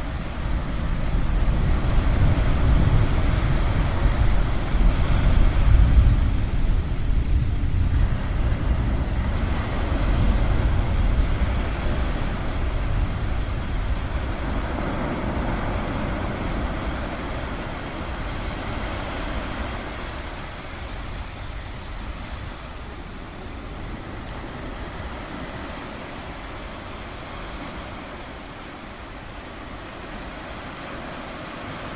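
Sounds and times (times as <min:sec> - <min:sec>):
ocean waves washing: 0:00.0 - 0:31.9.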